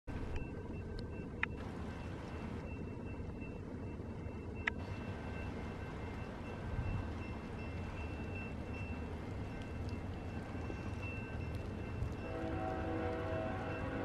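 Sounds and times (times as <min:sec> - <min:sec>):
crossing warning bell ringing: 0:00.1 - 0:14.0.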